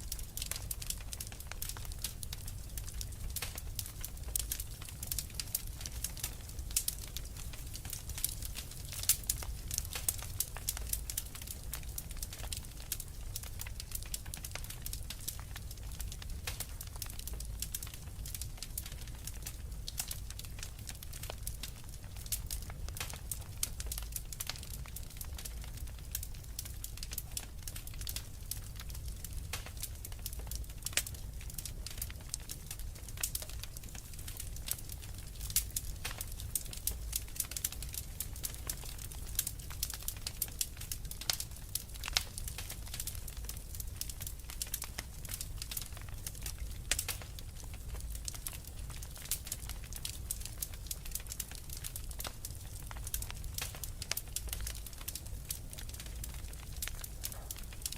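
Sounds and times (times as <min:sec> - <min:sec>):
low rumble of flame: 0:00.0 - 0:57.9
wood fire crackling and popping: 0:00.0 - 0:57.9.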